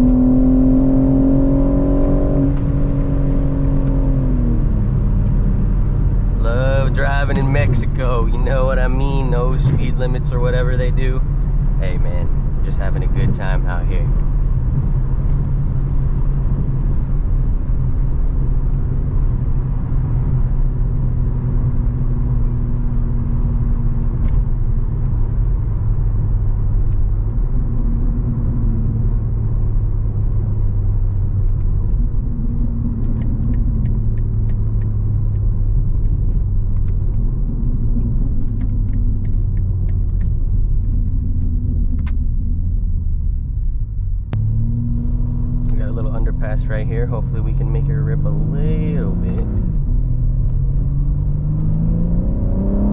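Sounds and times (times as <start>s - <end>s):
car exhaust drone: 0.0s - 52.9s.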